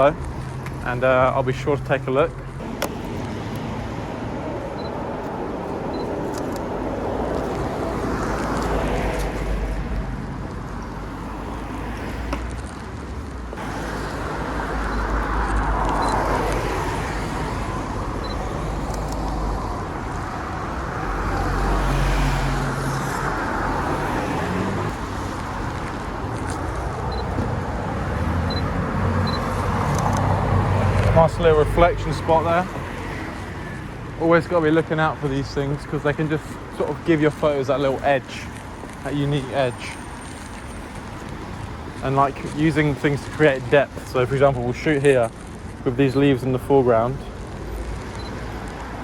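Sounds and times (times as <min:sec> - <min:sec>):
tyres hissing on wet street: 0:02.6 - 0:49.0.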